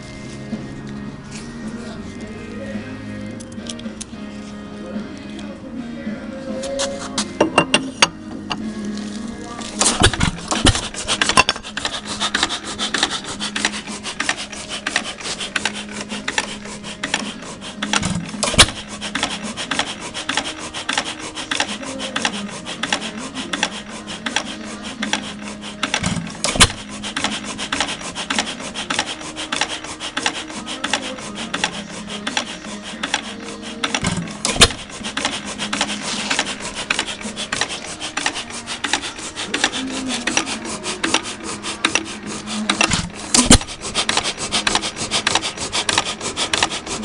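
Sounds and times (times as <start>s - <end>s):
engine mechanical clatter: 6.7s - 47.0s.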